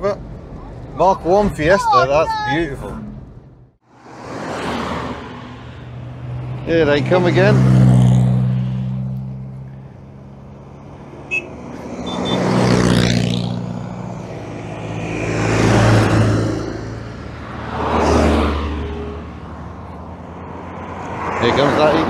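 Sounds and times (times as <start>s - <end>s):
cars driving past: 0.2s - 22.0s.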